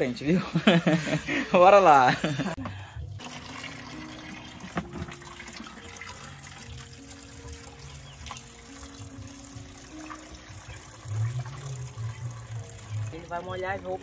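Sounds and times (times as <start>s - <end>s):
water running from hose into tub: 0.0s - 14.0s.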